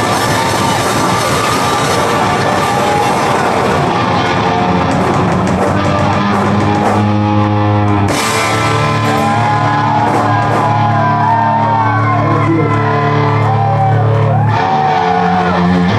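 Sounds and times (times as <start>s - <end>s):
electric guitar bending notes: 0.0s - 15.9s
rock band playing live: 0.0s - 15.9s.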